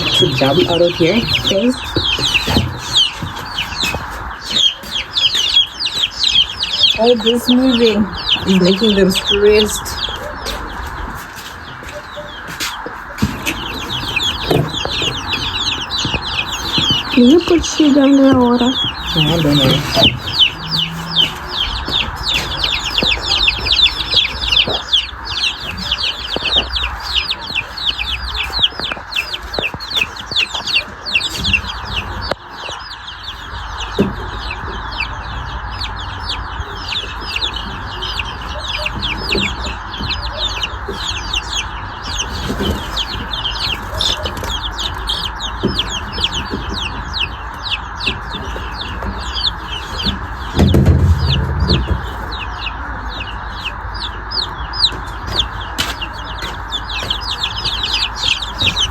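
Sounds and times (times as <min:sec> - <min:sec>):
chicks peeping: 0:00.0 - 0:58.9.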